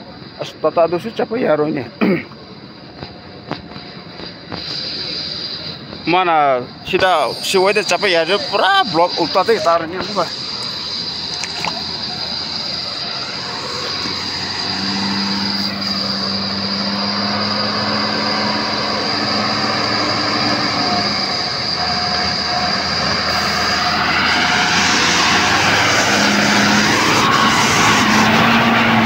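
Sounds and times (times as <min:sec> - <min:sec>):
rush of noise: 0:00.0 - 0:29.0
vehicle engine running: 0:00.0 - 0:29.0.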